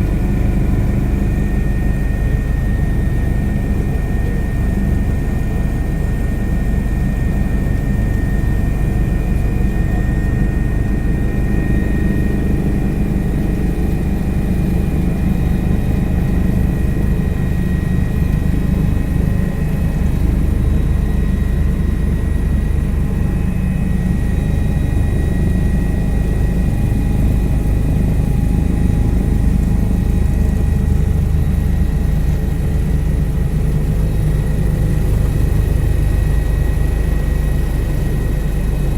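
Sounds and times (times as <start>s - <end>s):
helicopter rotor and turbine drone: 0.0s - 38.9s.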